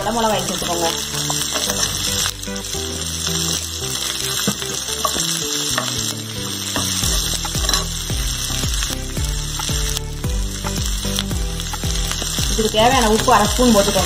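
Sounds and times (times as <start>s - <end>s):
background music with thumping beat: 0.0s - 14.0s
vegetables sizzling in oil: 0.0s - 14.0s.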